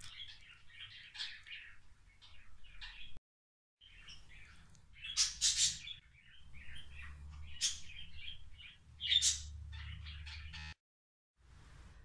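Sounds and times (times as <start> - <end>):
cage birds chirping: 0.0 - 3.2, 3.8 - 10.8.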